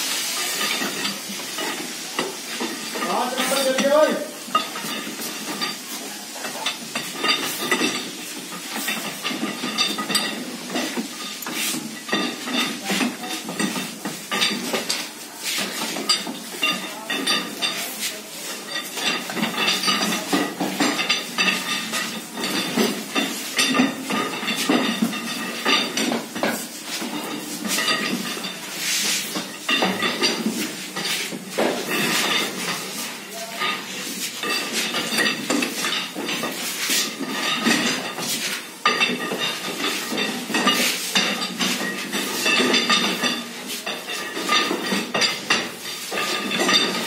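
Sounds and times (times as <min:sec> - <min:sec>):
steel rods clinking on metal: 0:00.3 - 0:47.0.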